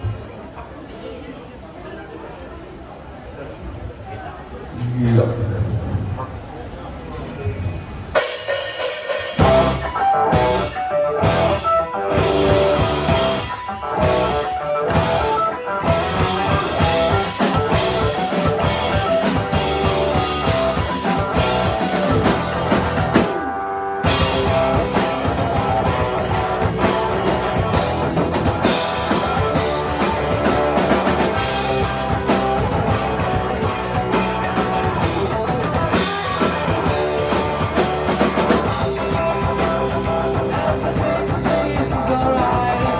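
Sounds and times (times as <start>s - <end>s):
rock band playing live: 8.1s - 42.9s.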